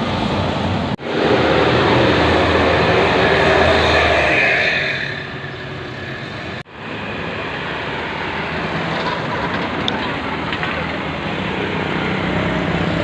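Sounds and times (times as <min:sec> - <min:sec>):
bus passing close by: 0:00.0 - 0:13.0
road traffic noise: 0:00.0 - 0:13.0.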